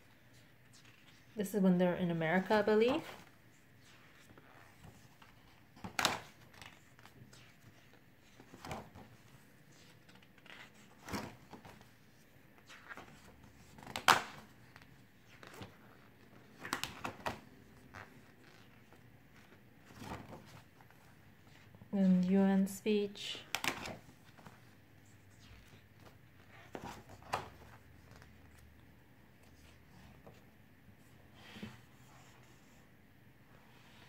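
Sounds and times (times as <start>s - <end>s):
photobook pages turning: 0.2s - 1.4s, 2.4s - 22.3s, 23.4s - 30.5s.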